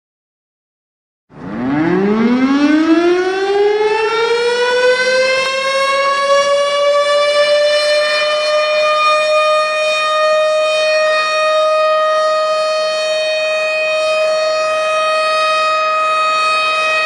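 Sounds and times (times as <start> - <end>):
siren wailing: 1.3 - 17.0.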